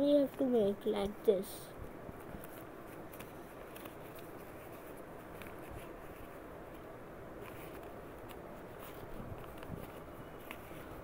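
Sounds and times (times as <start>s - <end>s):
low background noise: 0.0s - 11.0s
paper rustling and crackling: 2.2s - 11.0s.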